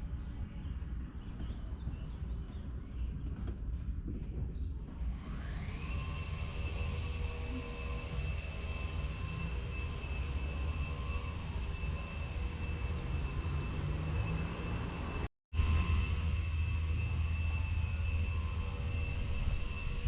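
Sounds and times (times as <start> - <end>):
machine whining over low rumble: 0.0 - 20.0.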